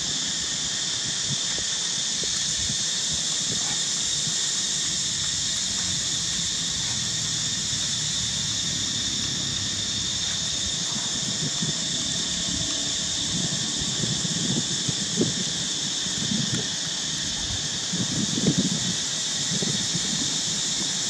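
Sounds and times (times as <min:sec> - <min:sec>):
insect chorus droning: 0:00.0 - 0:21.0.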